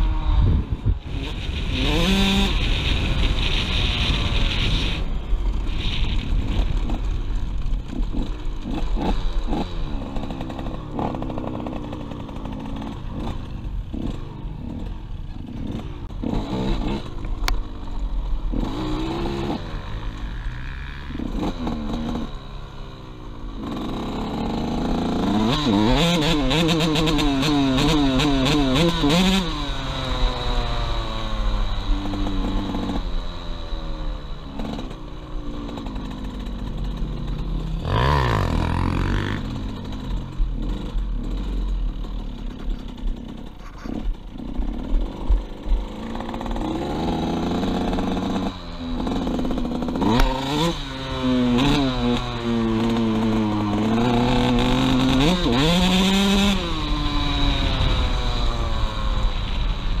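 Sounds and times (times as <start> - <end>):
dirt bike engine revving: 0.0 - 17.6, 18.4 - 22.8, 23.4 - 60.0.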